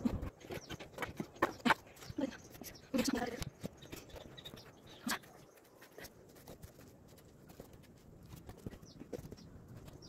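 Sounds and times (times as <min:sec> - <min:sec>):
footsteps on dirt path: 0:00.0 - 0:10.0.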